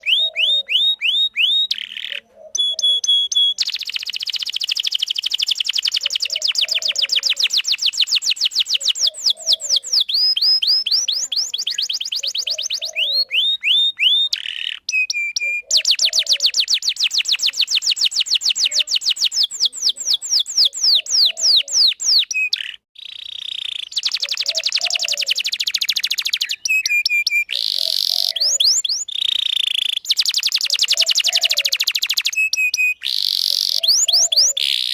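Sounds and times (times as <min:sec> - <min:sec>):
canary singing: 0:00.0 - 0:34.9.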